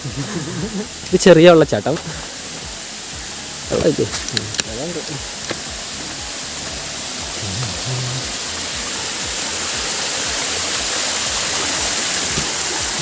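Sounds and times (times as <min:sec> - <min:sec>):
waterfall rushing water: 0:00.0 - 0:13.0.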